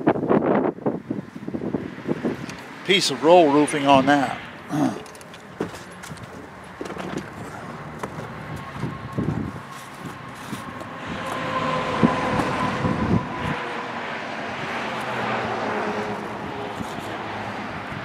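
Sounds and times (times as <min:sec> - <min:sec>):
vehicle engine hum: 0:00.1 - 0:18.0.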